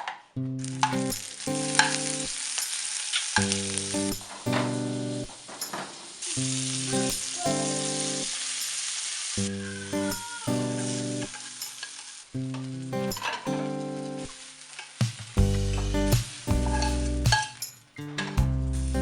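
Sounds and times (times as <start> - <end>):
food sizzling in frying pan: 0.6 - 17.7.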